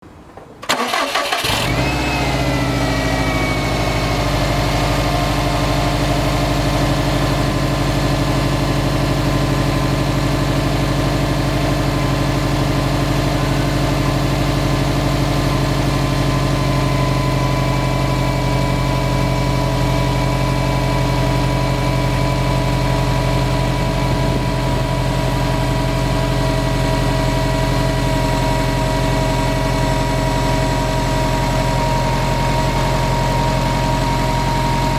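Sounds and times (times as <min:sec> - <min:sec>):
car engine starting and idling: 0:00.2 - 0:34.9.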